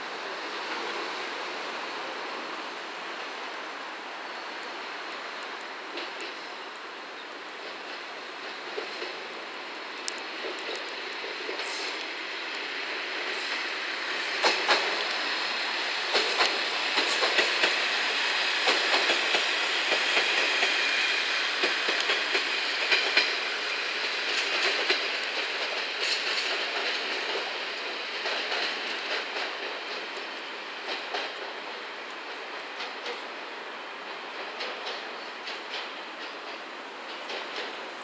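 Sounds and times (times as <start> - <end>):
diesel train running past: 0.0 - 38.0
wheels clacking over rail joints: 5.4 - 38.0.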